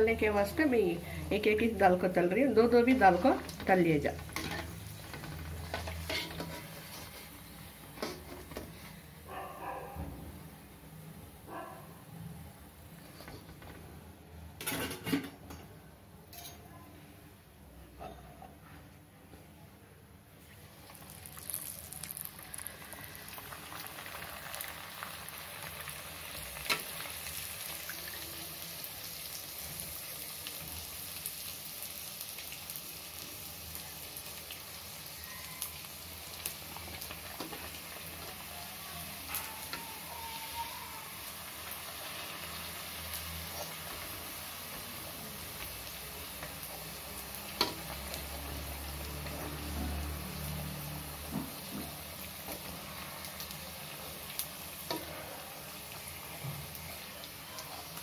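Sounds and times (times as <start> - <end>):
hot oil sizzling: 0.0 - 9.3, 20.4 - 58.0.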